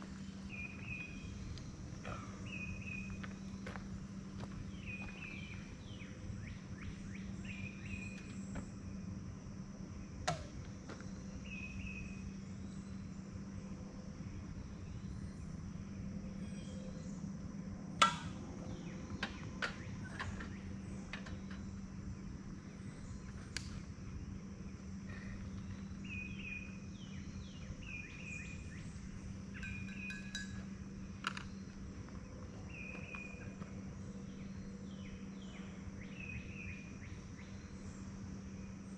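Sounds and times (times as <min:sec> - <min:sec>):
insect drone: 0:00.0 - 0:38.9
low hum: 0:00.0 - 0:38.9.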